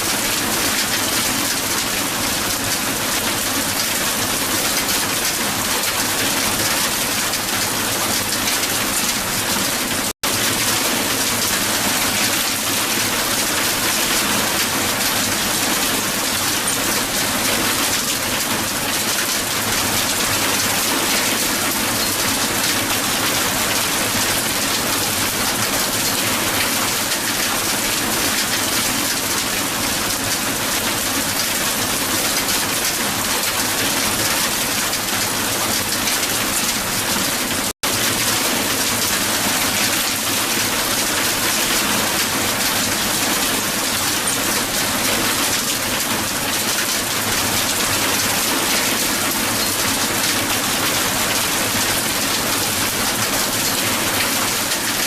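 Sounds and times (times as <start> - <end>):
heavy hail falling on ground: 0.0 - 55.0.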